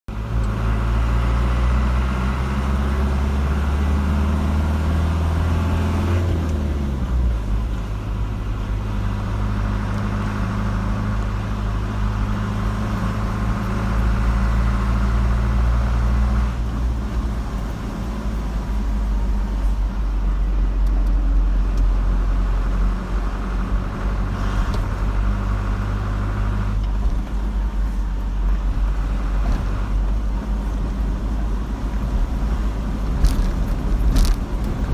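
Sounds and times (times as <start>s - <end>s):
car engine hum: 0.1s - 34.9s
road noise: 0.1s - 34.9s.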